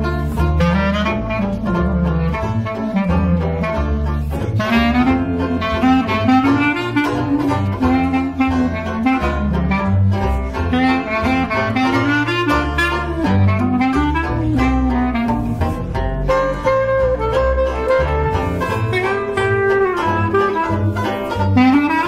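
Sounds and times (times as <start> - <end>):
clarinet melody: 0.0 - 22.0
plucked double bass: 0.0 - 22.0
strummed banjo: 0.0 - 22.0.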